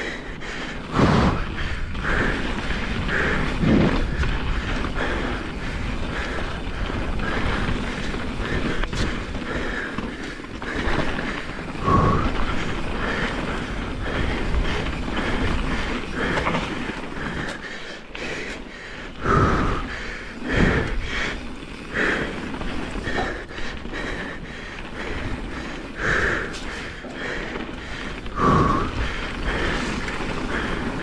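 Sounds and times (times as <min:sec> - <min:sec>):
bike jolts: 0:00.0 - 0:31.0
bike tyres rumbling on dirt: 0:00.0 - 0:31.0.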